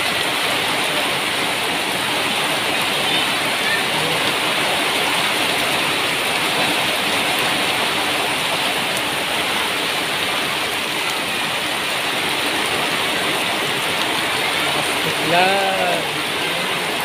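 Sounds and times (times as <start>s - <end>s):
heavy rain on metal roofs: 0.0s - 17.0s.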